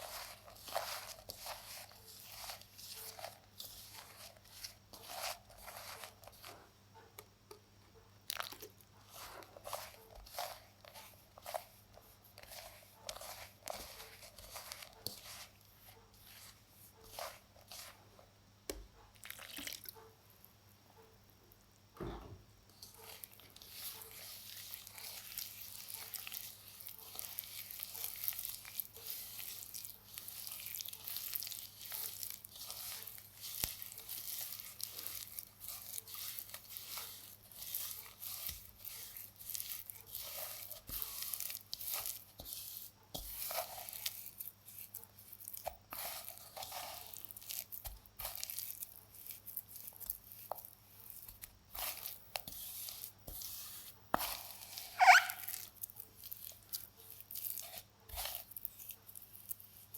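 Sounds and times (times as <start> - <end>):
baking soda crumbling crunches: 0.0 - 6.7, 8.2 - 19.9, 22.7 - 59.9.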